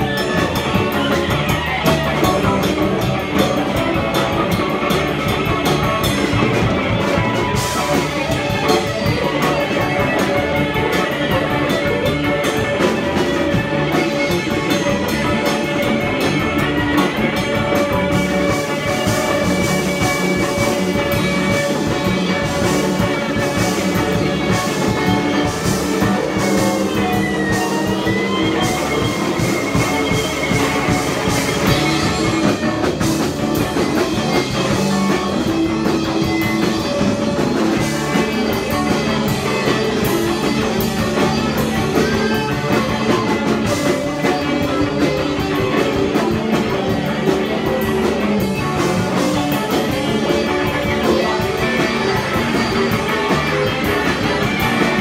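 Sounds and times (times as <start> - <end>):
punk band instrumental: 0.0 - 55.0.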